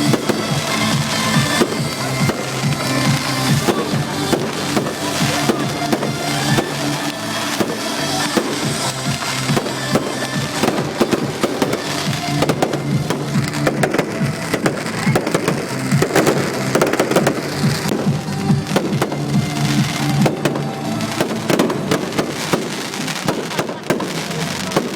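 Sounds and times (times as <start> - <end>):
fireworks exploding: 0.0 - 24.9
loud music with held tones: 0.0 - 24.9.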